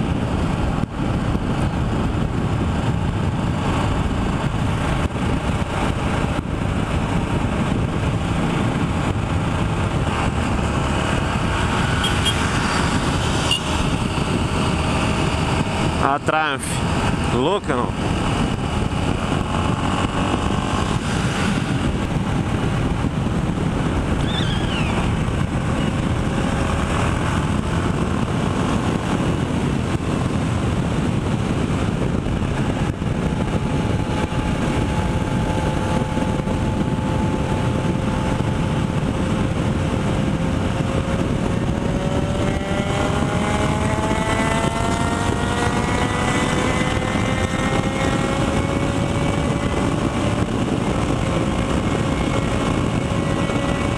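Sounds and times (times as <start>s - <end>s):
motorcycle engine: 0.0s - 53.9s
wind and road noise: 0.0s - 53.9s.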